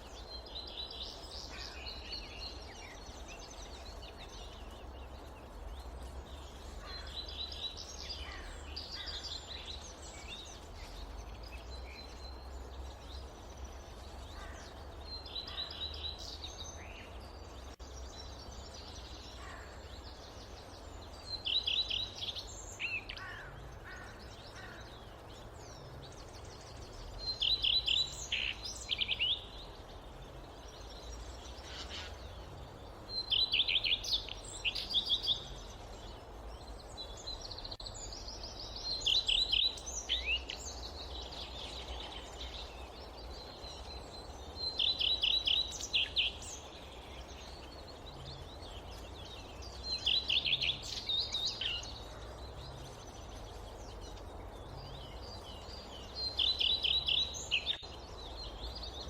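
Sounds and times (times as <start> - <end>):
low wind rumble: 0.0 - 59.0.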